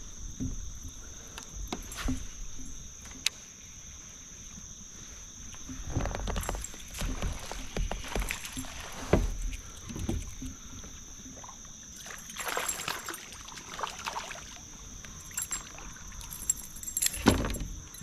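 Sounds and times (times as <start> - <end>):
kayak paddling in water: 0.0 - 17.9
crickets chirping: 0.0 - 18.0.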